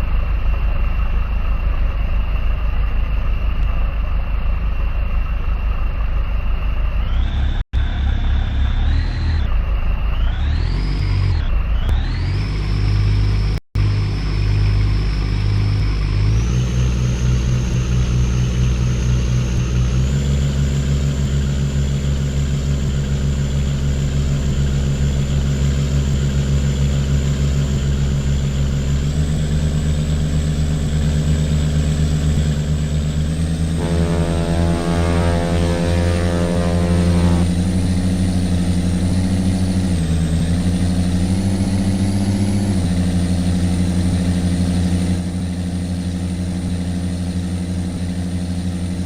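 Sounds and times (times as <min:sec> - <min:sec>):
boat engine running: 0:00.0 - 0:49.0.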